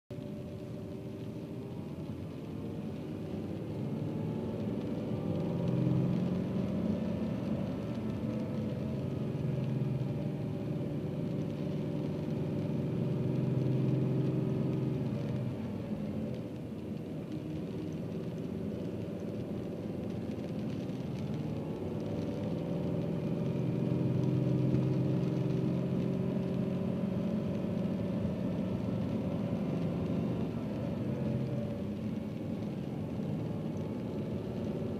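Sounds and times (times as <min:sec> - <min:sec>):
rain: 0:00.1 - 0:34.9
car engine revving: 0:00.2 - 0:16.4, 0:17.0 - 0:34.9.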